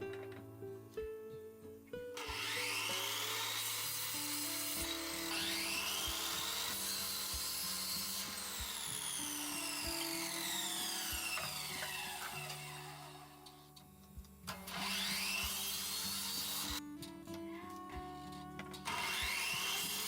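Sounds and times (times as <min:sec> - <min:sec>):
power tool cutting wood: 0:02.2 - 0:17.4, 0:18.2 - 0:20.0.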